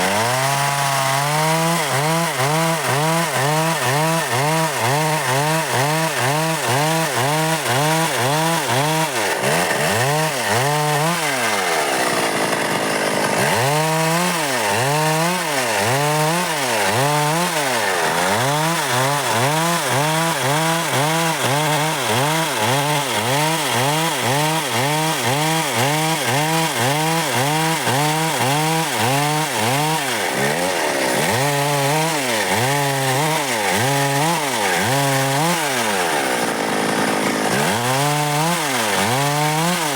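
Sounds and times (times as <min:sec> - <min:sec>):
chainsaw cutting dry wood: 0:00.0 - 0:39.9.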